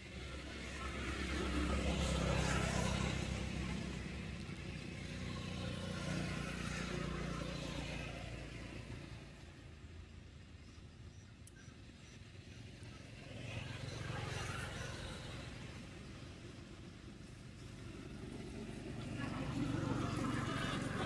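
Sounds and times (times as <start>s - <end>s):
motor vehicle passing by: 0.0s - 21.0s.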